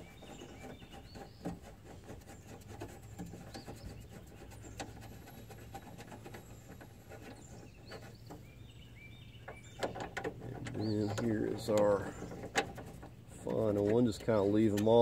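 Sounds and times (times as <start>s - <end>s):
hand brushing panel: 0.0s - 8.7s, 9.4s - 15.0s
faint rubbing: 0.0s - 8.8s, 9.5s - 15.0s.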